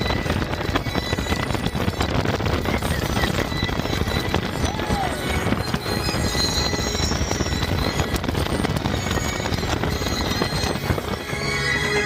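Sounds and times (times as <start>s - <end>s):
coaster train rattling rumble: 0.0s - 12.0s
rushing wind: 0.0s - 12.0s.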